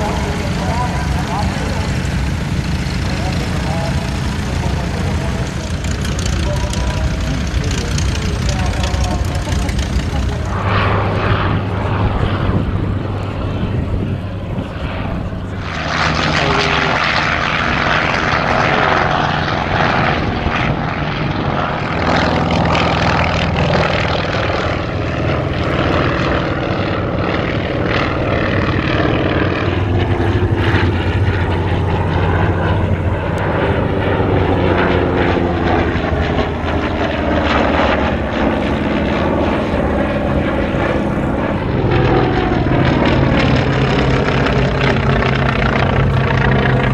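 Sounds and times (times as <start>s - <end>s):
propeller aircraft engine: 0.0s - 46.9s.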